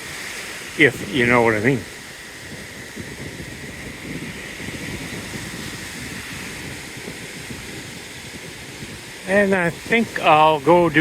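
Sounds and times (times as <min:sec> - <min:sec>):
sea waves washing onto beach: 0:00.0 - 0:11.0
wind rumble on microphone: 0:00.0 - 0:11.0.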